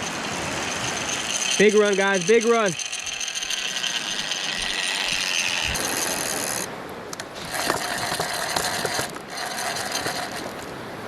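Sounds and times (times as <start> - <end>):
fishing reel ratcheting: 0.0 - 10.8.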